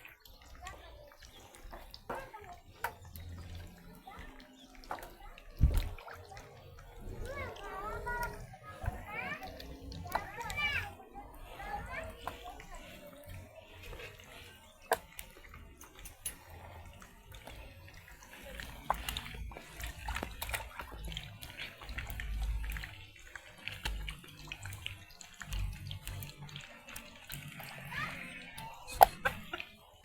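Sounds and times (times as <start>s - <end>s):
water splashing and running: 0.0s - 30.0s.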